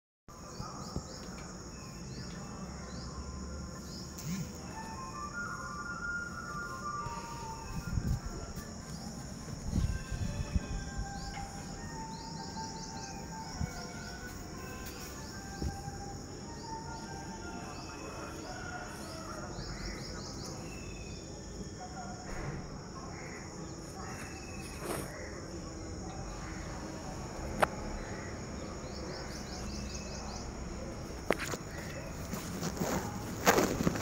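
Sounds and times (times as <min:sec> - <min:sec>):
insects trilling: 0:00.3 - 0:34.0.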